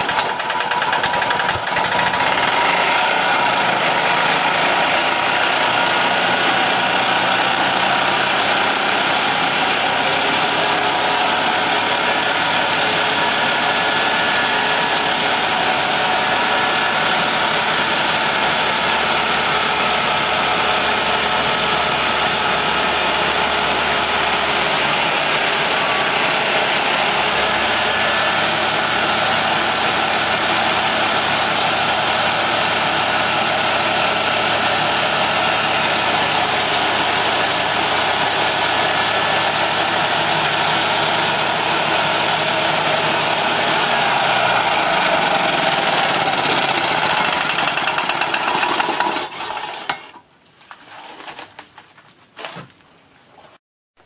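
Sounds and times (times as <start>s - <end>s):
sawmill engine running loudly: 0.0s - 50.0s.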